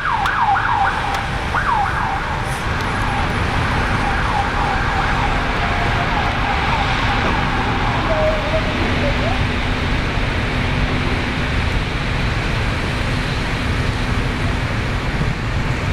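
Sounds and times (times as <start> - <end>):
emergency siren wailing: 0.0 - 14.5
steady low rumble: 0.9 - 15.9.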